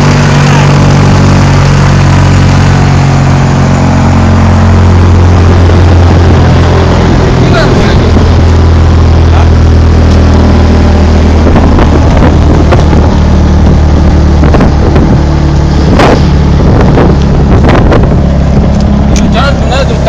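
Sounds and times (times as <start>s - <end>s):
wood chipper running: 0.0s - 20.0s.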